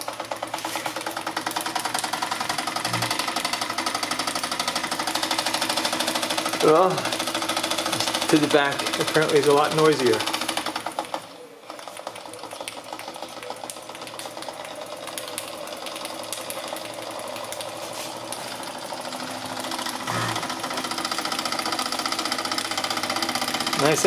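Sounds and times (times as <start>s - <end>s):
toy steam engine clattering: 0.0s - 24.0s.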